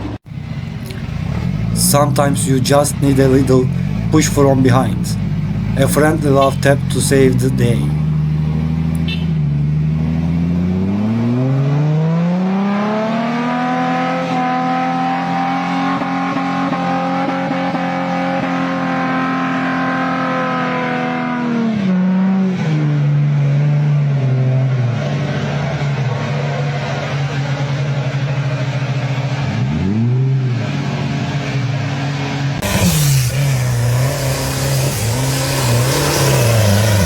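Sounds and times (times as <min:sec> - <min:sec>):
engine revving and idling: 0:00.0 - 0:37.0.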